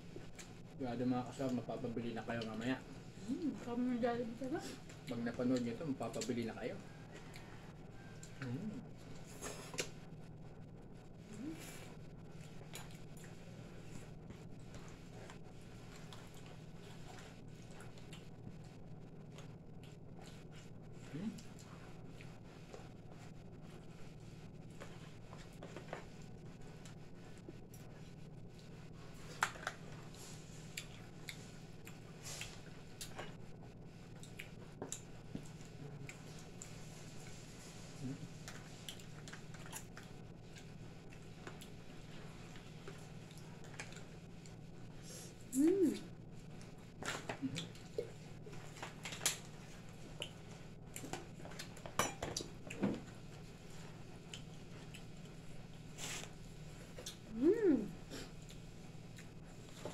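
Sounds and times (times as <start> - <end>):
low hum: 0.0 - 51.6.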